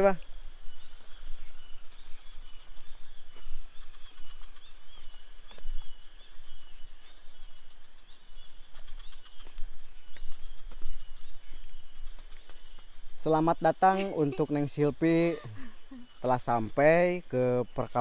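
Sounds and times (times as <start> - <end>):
high insect drone: 0.0 - 18.0
small birds chirping: 0.0 - 18.0.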